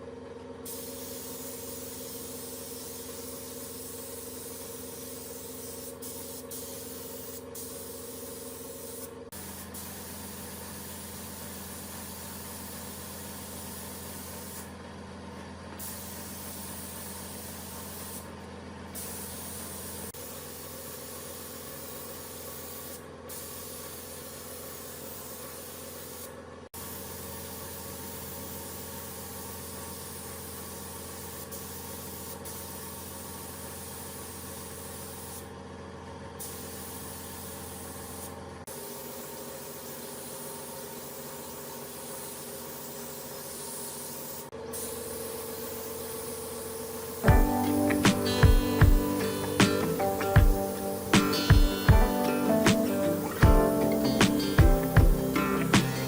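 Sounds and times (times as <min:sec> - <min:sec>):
machine hiss and hum: 0:00.6 - 0:14.8, 0:15.8 - 0:35.5, 0:36.4 - 0:56.0.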